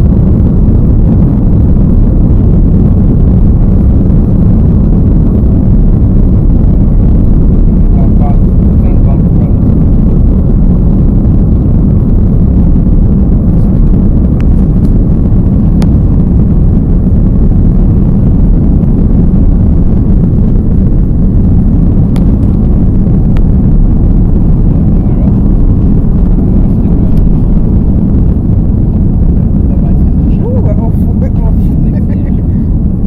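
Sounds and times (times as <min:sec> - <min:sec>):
airliner engines deep rumble: 0:00.0 - 0:33.0.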